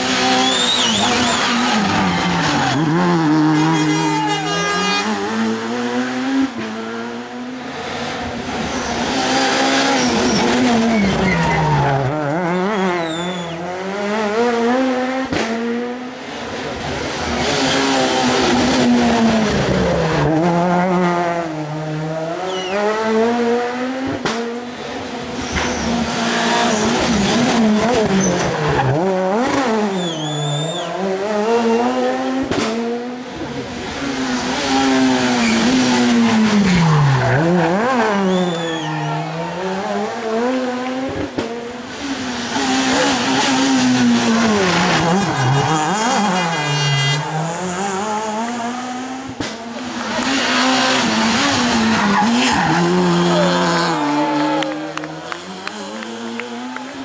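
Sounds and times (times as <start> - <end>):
rally cars passing: 0.0 - 57.0.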